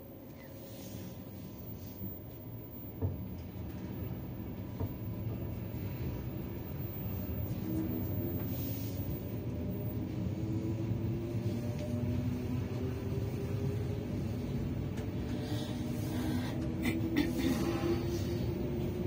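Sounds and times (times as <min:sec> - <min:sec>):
train carriage rumble: 0:00.0 - 0:19.0
train drive whine: 0:00.0 - 0:19.0.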